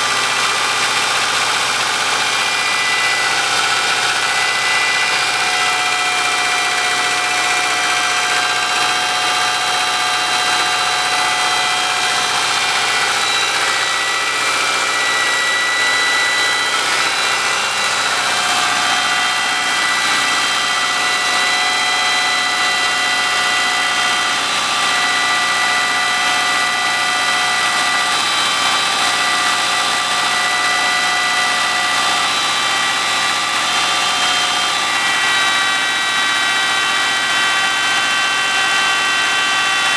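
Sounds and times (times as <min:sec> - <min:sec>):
car engine idling: 0:00.0 - 0:37.3.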